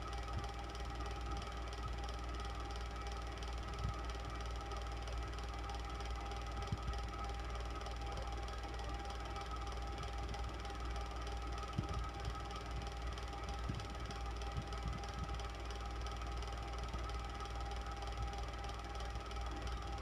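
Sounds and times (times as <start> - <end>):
electric fan whirring: 0.0 - 20.0.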